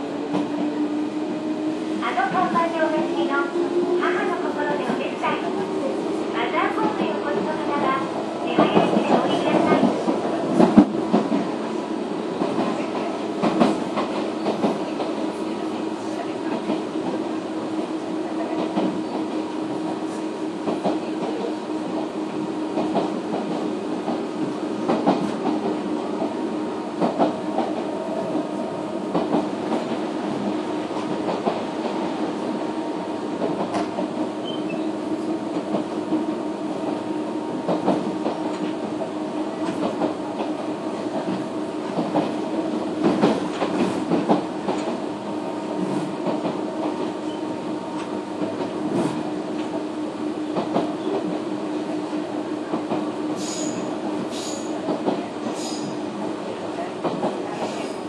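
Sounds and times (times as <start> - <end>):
train motor and gear hum: 0.0 - 58.0.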